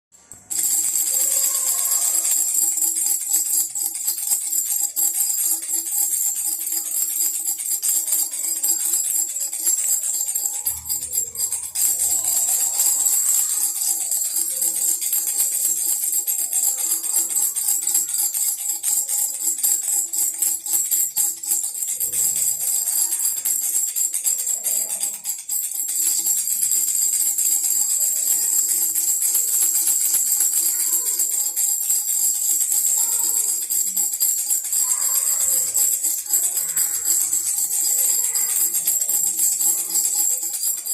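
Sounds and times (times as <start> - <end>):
baby rattle jingling: 0.2 - 40.9
music: 0.5 - 40.9.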